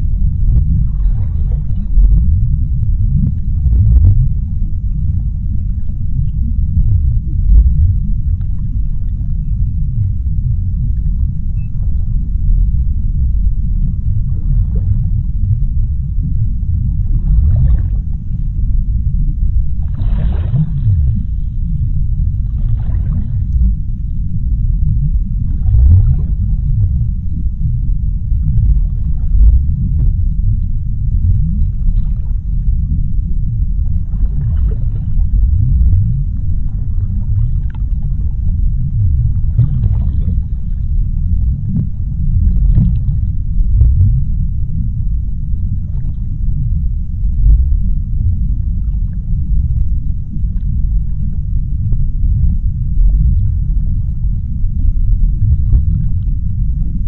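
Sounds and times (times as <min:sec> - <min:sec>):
underwater low rumble: 0:00.0 - 0:57.0.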